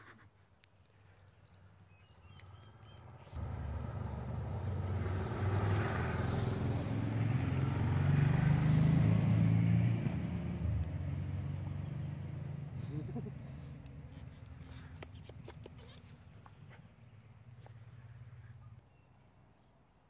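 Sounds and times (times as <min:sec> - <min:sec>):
vehicle engine hum: 0:02.2 - 0:18.9.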